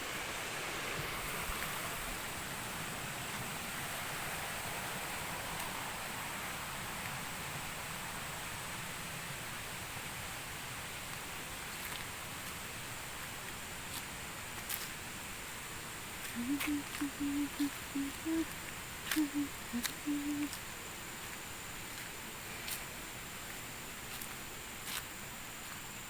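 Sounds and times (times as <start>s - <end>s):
faint high hiss: 0.0s - 26.0s.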